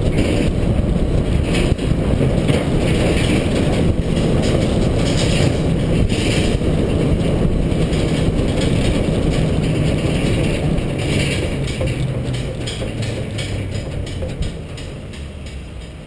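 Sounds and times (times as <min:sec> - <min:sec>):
diesel truck engine running: 0:00.0 - 0:16.0
road and driving rumble: 0:00.0 - 0:16.0.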